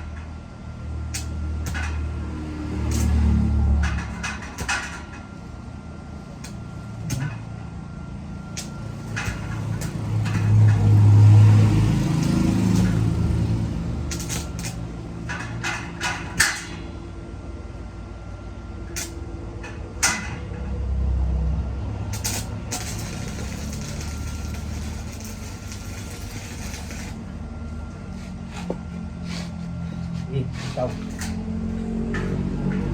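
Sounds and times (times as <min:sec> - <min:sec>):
low hum: 0:00.0 - 0:32.9.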